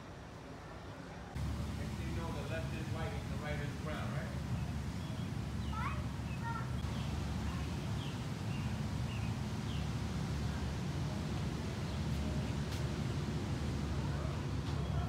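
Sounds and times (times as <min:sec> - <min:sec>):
steady low rumble: 0:01.4 - 0:15.0.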